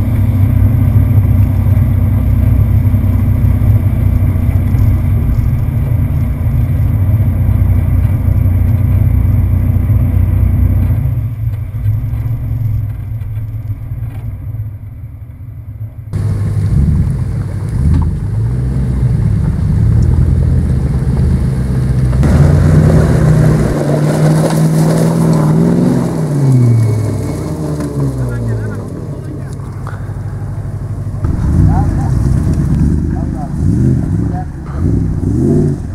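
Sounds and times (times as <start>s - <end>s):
off-road vehicle engine running: 0.0s - 35.9s
truck engine labouring and revving: 0.0s - 35.9s.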